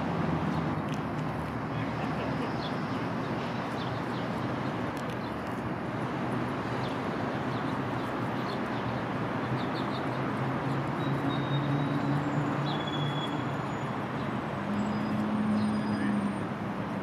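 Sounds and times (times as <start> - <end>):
distant road traffic hum: 0.0 - 17.0.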